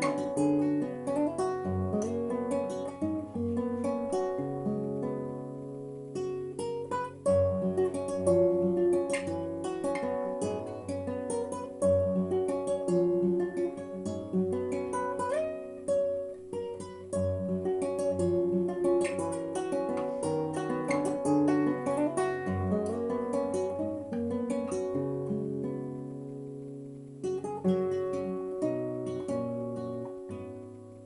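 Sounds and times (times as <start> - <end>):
acoustic guitar ballad: 0.0 - 31.0.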